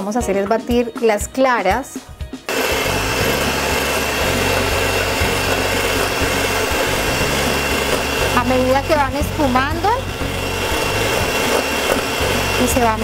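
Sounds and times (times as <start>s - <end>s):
electric hand mixer whisking: 2.5s - 13.0s.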